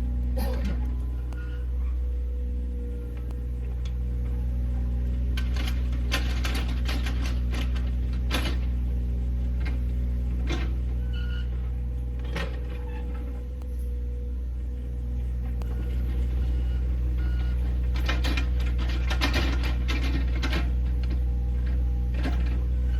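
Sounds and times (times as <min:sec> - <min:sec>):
heavy equipment engine running: 0:00.0 - 0:22.9.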